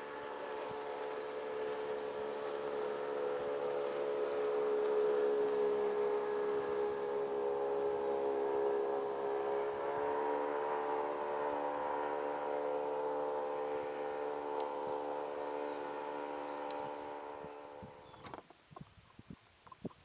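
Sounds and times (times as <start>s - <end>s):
outboard motor whining: 0.0s - 18.5s.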